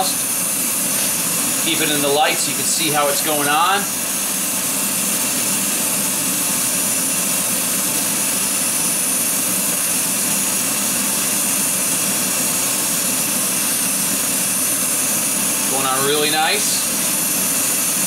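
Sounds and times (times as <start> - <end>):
spray booth hum: 0.0 - 18.0.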